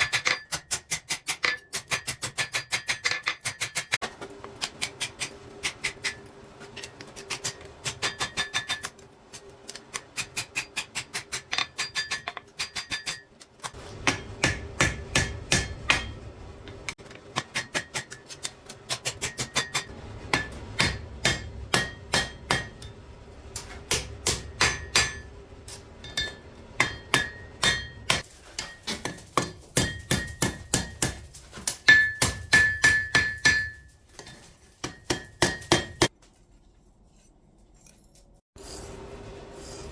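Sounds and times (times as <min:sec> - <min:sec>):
hammer striking steel on anvil: 0:00.0 - 0:09.0, 0:10.0 - 0:36.1.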